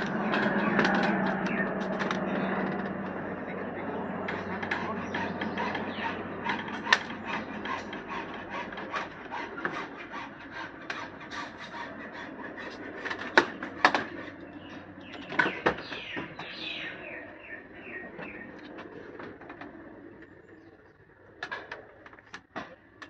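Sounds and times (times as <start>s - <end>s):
small birds chirping: 0.0s - 8.6s, 11.3s - 22.0s.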